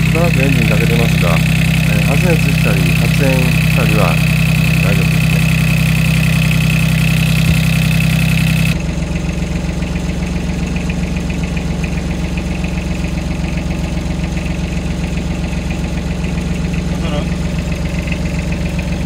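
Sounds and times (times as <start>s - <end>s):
excavator engine idling: 0.0s - 19.0s.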